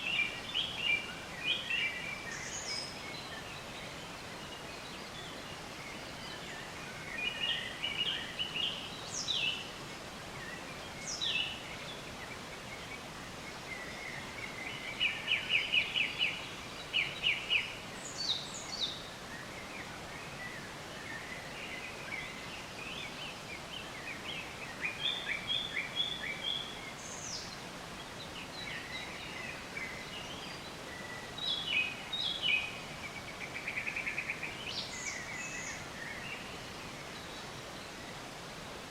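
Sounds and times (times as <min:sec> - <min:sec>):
small birds chirping: 0:00.0 - 0:38.9
steady background hiss: 0:00.0 - 0:38.9.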